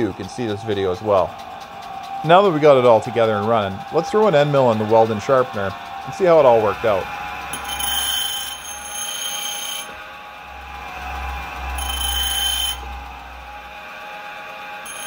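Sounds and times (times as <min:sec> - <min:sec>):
high-pitched grinding whine: 0:00.0 - 0:15.0
motor and wheel humming: 0:00.0 - 0:15.0.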